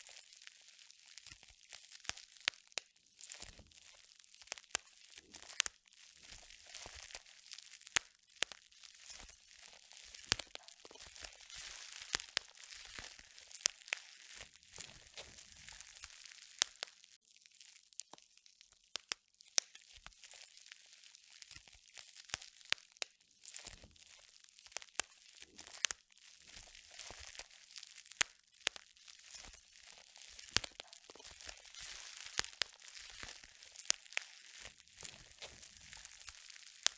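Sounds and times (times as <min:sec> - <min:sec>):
crackling and crunching: 0:00.0 - 0:36.9.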